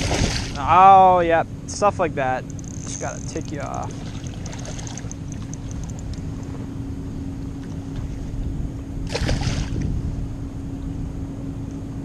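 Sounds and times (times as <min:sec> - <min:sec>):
wind rumble on microphone: 0:00.0 - 0:01.2, 0:02.2 - 0:12.0
river water: 0:00.0 - 0:10.9
constant low hum: 0:00.0 - 0:12.0.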